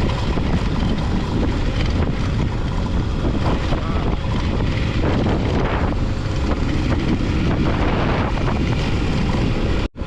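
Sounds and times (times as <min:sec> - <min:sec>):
motorcycle engine: 0:00.0 - 0:10.0
wind buffeting microphone: 0:00.0 - 0:10.0.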